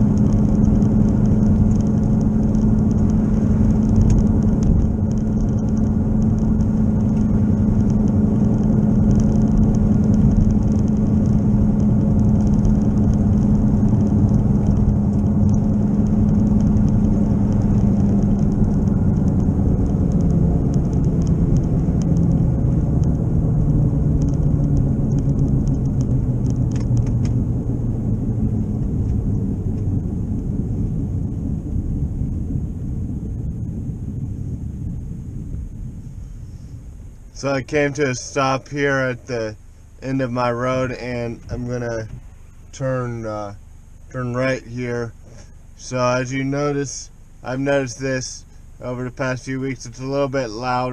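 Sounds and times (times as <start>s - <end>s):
car cabin drone: 0.0s - 50.9s
road rumble: 0.0s - 50.9s.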